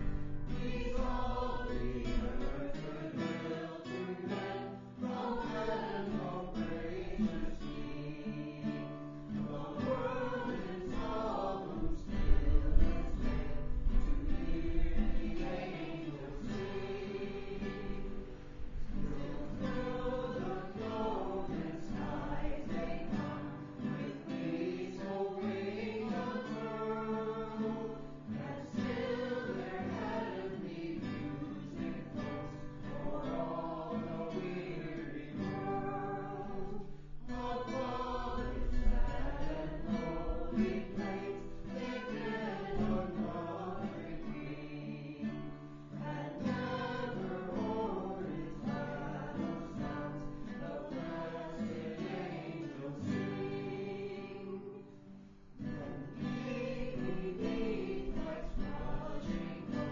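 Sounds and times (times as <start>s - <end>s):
acoustic guitar: 0.0s - 59.9s
group singing a carol: 0.0s - 59.9s.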